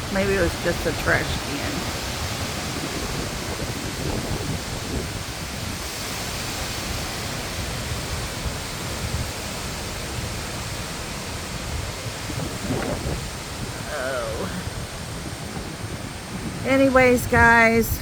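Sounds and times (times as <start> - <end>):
gusts buffeting microphone: 0.0 - 18.0
storm wind roaring: 0.0 - 18.0.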